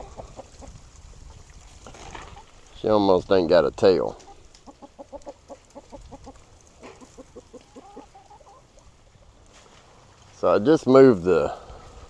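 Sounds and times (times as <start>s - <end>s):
chickens clucking: 0.0s - 10.3s.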